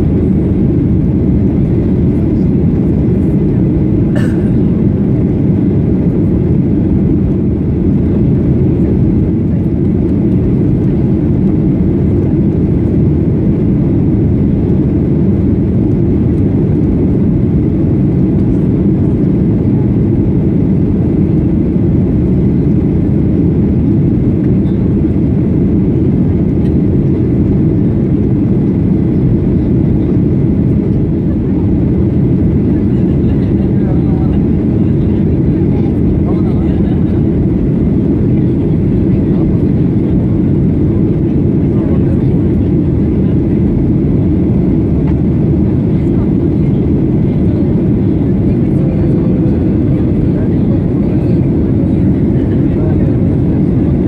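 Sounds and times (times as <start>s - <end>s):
airplane cabin engine roar: 0.0s - 54.0s.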